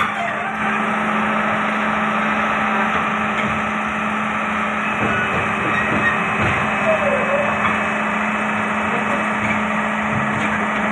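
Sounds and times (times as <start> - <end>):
excavator diesel engine running: 0.0 - 10.9.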